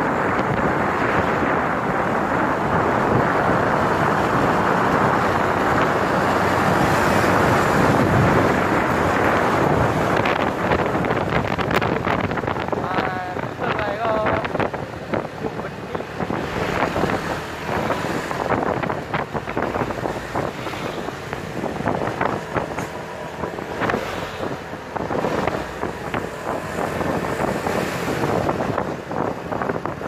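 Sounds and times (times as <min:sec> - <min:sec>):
truck engine and exhaust: 0:00.0 - 0:30.0
wind buffeting microphone: 0:00.0 - 0:30.0.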